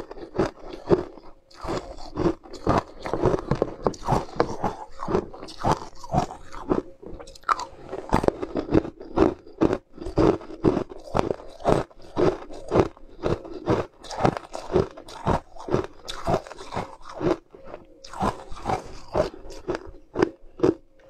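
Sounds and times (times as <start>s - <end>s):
person crunching ice: 0.0s - 20.8s.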